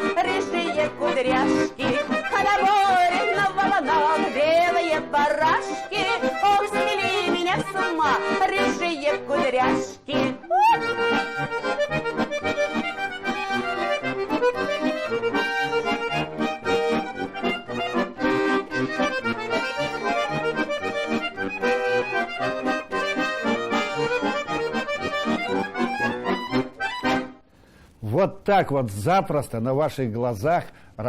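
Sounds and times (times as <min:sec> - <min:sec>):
accordion folk music: 0:00.0 - 0:30.9.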